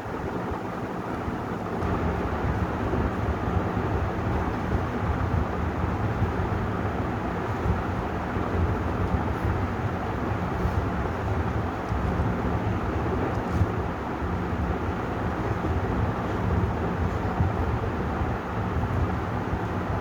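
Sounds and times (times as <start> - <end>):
ceiling fan running: 0.0 - 20.0.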